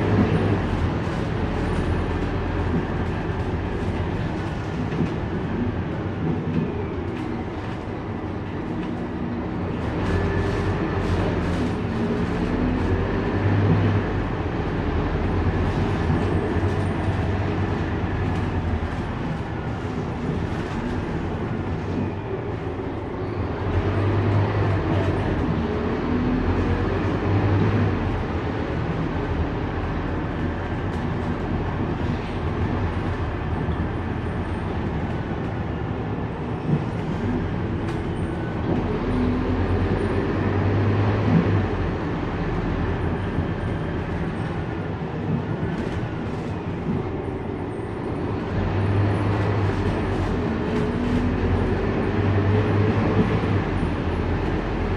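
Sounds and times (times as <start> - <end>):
bus diesel engine drone: 0.0 - 54.9
road rumble: 0.0 - 54.9.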